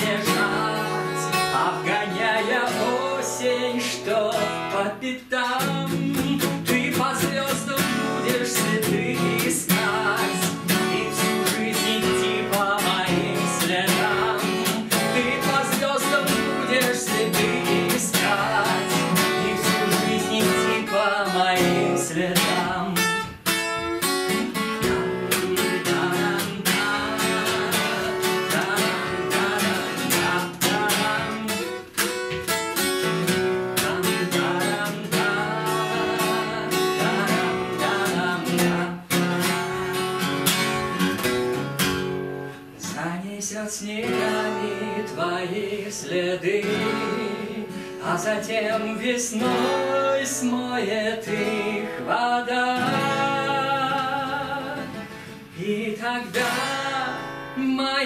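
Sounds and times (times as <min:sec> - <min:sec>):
man singing: 0:00.0 - 0:41.0, 0:42.7 - 0:58.0
acoustic guitar strumming: 0:00.0 - 0:58.0.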